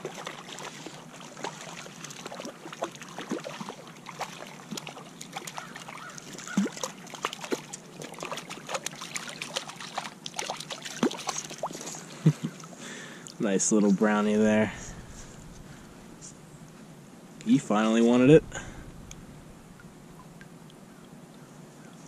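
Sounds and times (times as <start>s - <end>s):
water splashing and trickling: 0.0s - 16.8s, 17.4s - 22.0s.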